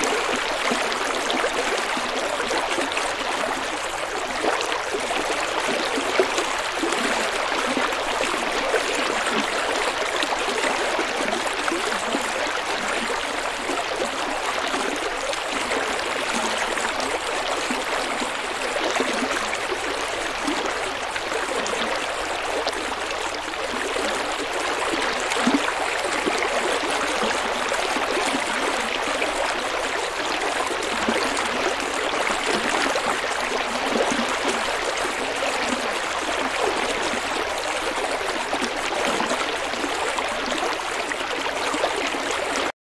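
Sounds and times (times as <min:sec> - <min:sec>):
water babbling and trickling: 0:00.0 - 0:42.7.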